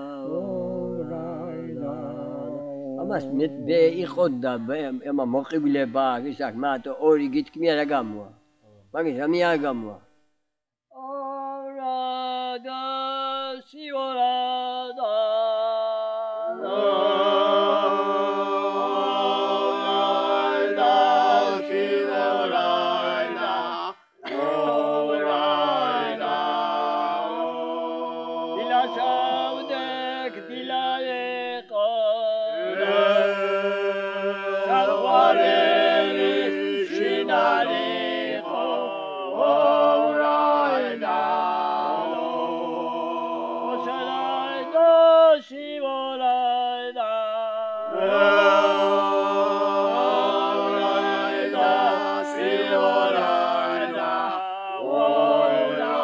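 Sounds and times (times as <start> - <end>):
men singing in harmony: 0.0 - 5.6, 11.0 - 56.0.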